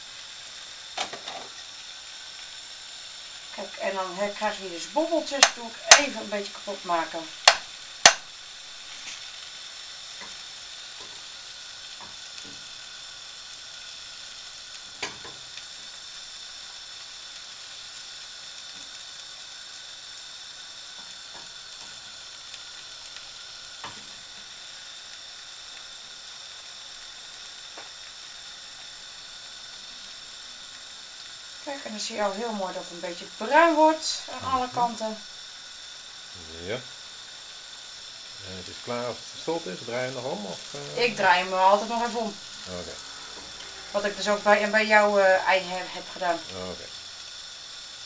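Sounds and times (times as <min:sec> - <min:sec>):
omelette sizzling in pan: 0:00.0 - 0:48.0.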